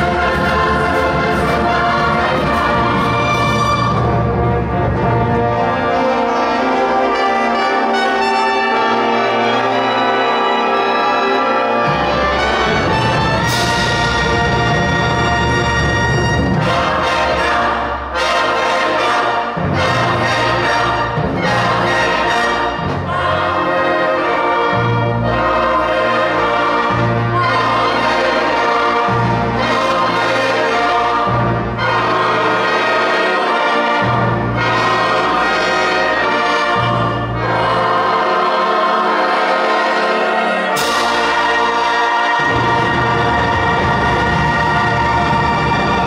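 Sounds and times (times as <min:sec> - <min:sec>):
choir singing: 0:00.0 - 0:46.0
wind band playing: 0:00.0 - 0:46.0.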